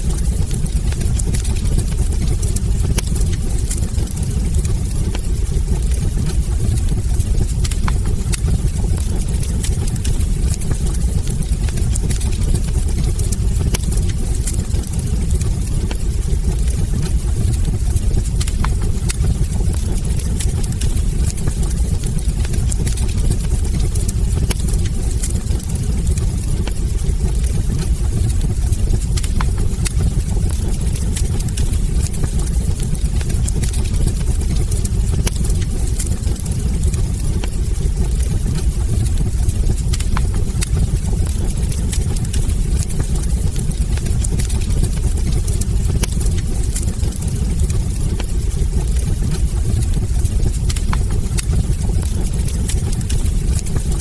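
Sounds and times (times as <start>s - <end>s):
burning logs crackling and popping: 0.0s - 54.0s
low fire rumble: 0.0s - 54.0s.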